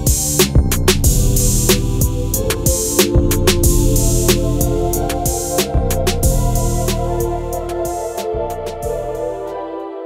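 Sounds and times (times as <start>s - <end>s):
background music with drum beat: 0.0s - 9.6s.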